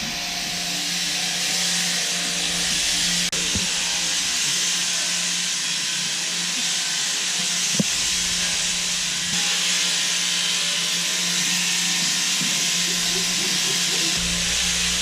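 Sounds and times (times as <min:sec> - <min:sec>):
electric shearing handpiece humming: 0:00.0 - 0:15.0.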